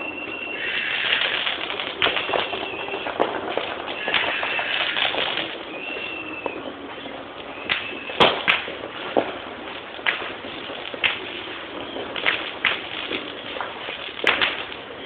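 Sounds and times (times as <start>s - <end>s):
firecrackers cracking: 0.0s - 15.0s.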